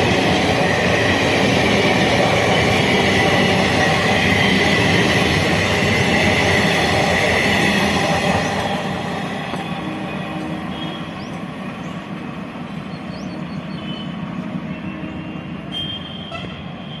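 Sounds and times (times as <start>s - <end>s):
train rumbling along rails: 0.0s - 17.0s.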